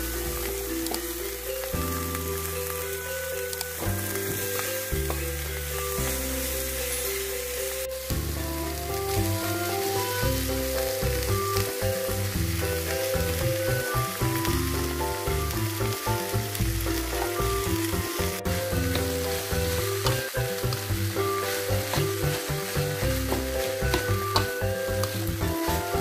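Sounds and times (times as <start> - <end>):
background music: 0.0 - 26.0
rice sizzling in a wok: 0.0 - 26.0.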